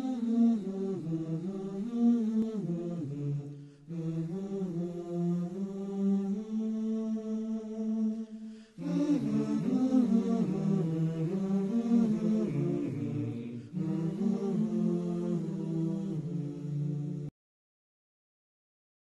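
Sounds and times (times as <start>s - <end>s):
low voice chanting: 0.0s - 17.3s.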